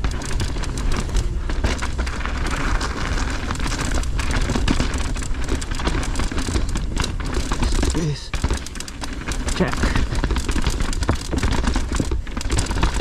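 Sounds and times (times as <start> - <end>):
bike rattling clicks: 0.0 - 13.0
tyres crunching on gravel: 0.0 - 13.0.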